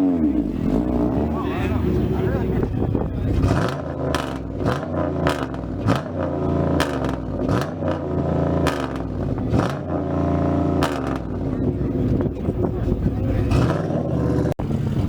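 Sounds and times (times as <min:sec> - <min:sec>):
car engine revving: 0:00.0 - 0:15.0
exhaust pops: 0:00.0 - 0:15.0.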